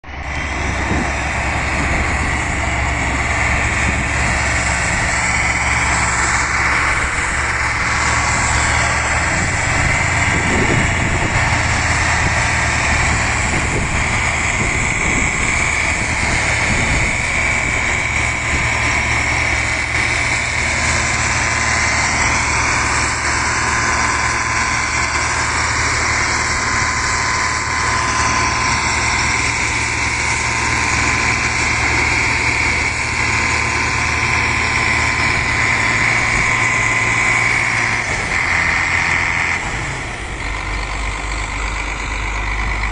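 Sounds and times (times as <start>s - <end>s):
diesel tractor engine running: 0.0s - 42.9s.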